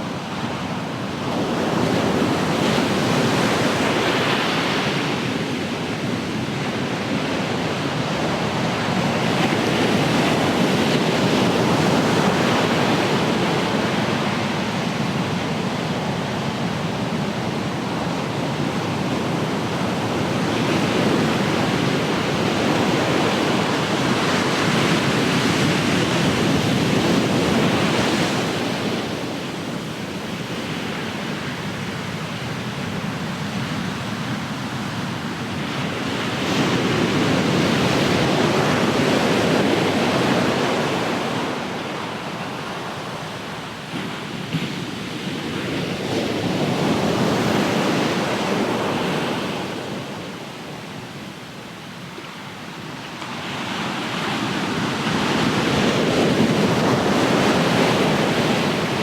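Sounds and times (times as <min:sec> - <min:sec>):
ocean surf breaking on shore: 0:00.1 - 0:59.0.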